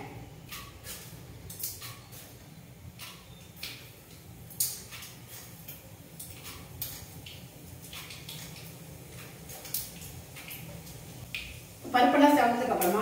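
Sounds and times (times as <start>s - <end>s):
seeds popping in hot oil: 0.0s - 13.0s.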